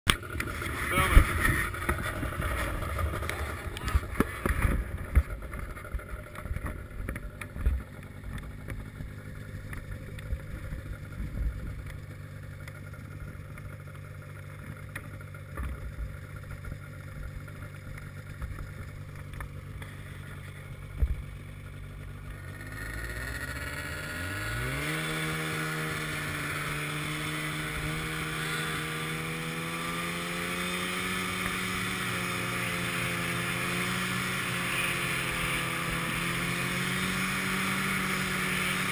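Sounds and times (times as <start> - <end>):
snowmobile engine idling and revving: 0.1 - 38.9.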